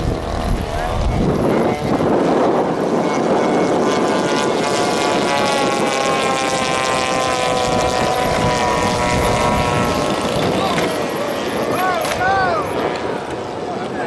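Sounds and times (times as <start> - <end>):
model airplane engine droning: 0.0 - 14.0.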